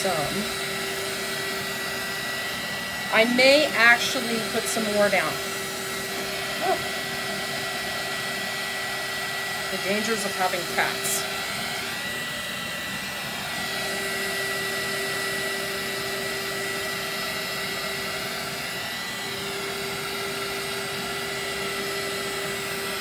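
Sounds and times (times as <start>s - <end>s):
heat tool fan whining: 0.0s - 23.0s.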